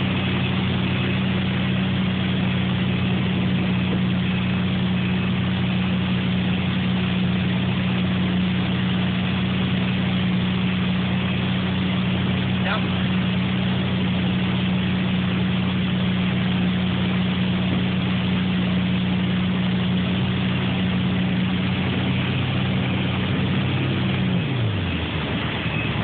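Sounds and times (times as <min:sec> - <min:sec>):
motorboat engine running: 0:00.0 - 0:26.0
wind and water rushing: 0:00.0 - 0:26.0.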